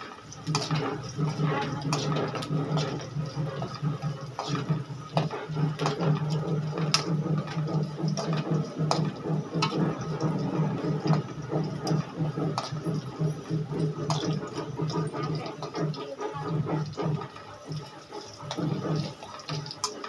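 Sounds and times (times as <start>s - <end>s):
food sizzling in hot oil: 0.0s - 20.0s
spatula scraping a pan: 0.0s - 20.0s.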